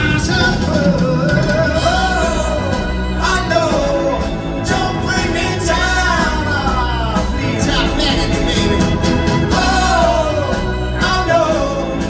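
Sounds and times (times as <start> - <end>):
live rock band playing: 0.0 - 12.0
sliding lead melody: 0.0 - 12.0.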